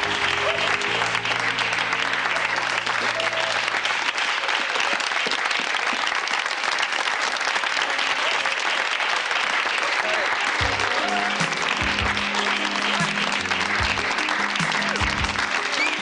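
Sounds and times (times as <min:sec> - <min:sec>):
crowd applause: 0:00.0 - 0:16.0.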